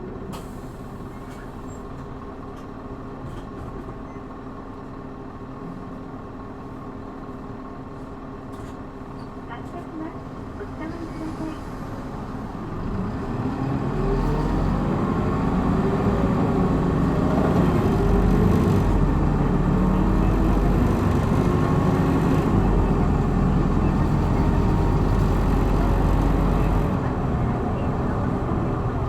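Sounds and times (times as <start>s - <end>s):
bus diesel engine accelerating: 0.0s - 29.0s.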